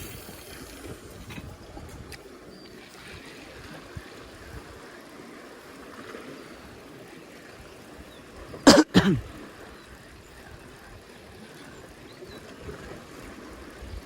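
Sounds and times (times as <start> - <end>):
water washing around boat: 0.0 - 14.0.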